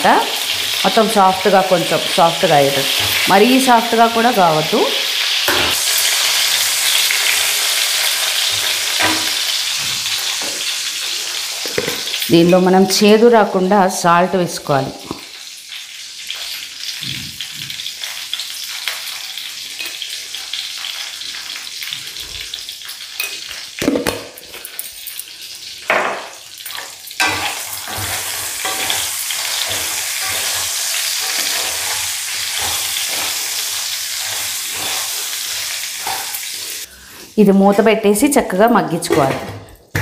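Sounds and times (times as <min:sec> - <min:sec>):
vegetables sizzling in hot oil: 0:00.0 - 0:36.9.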